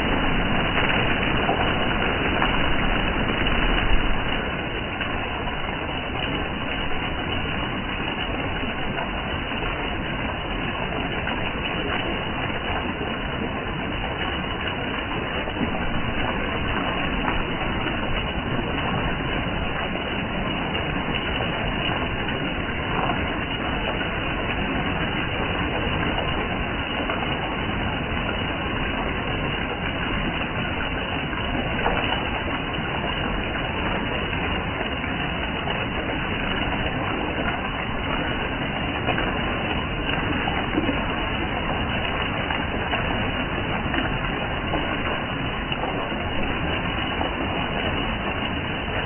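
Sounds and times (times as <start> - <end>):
rain falling steadily: 0.0 - 49.0.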